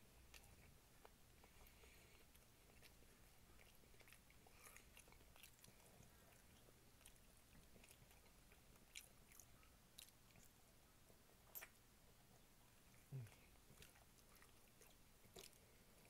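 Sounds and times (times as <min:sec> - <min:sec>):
person chewing food: 0:00.1 - 0:16.0.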